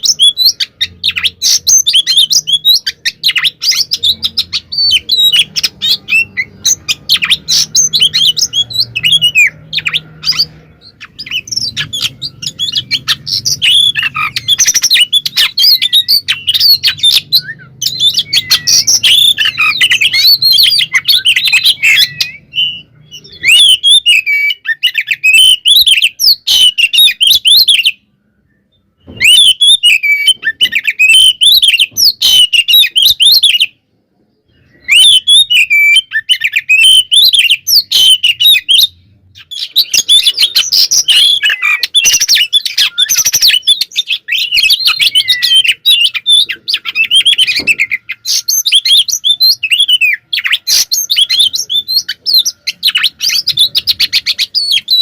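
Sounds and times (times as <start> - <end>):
bird singing high whistles: 0.0 - 27.9, 28.5 - 33.8, 34.6 - 55.0.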